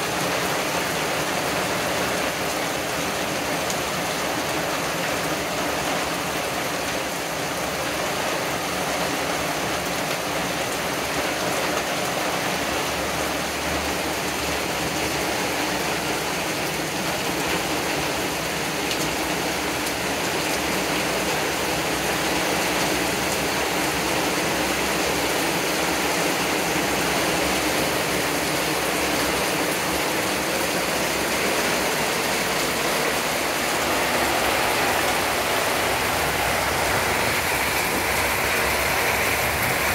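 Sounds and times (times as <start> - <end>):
heavy rain on trees and deck: 0.0 - 39.9.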